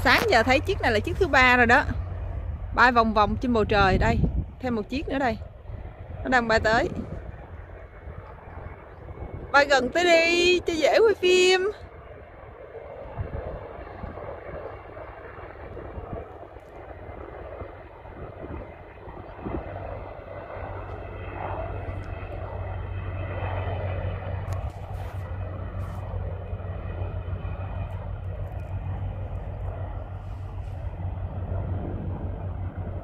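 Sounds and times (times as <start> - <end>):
helicopter rotor and engine: 0.0 - 33.0
steady low hum: 0.0 - 33.0.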